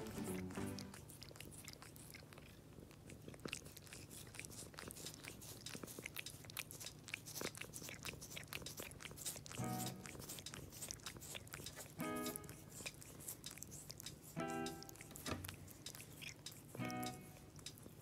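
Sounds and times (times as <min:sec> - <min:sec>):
cat licking hand: 0:00.0 - 0:18.0.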